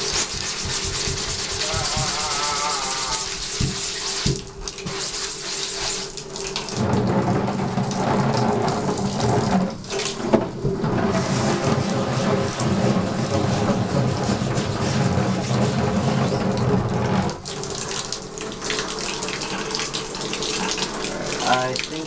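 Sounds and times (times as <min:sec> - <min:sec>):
tap water splashing on a screen: 0:03.3 - 0:22.0.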